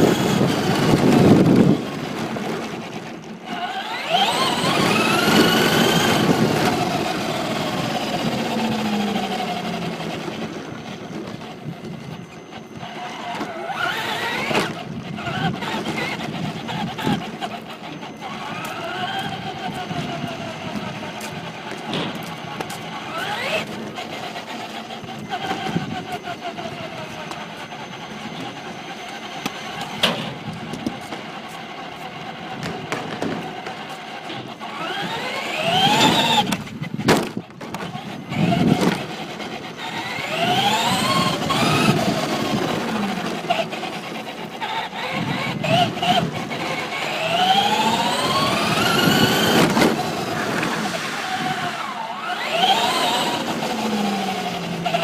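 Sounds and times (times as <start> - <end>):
electric motor whining: 0.0 - 55.0
tyre noise on pavement: 0.0 - 55.0.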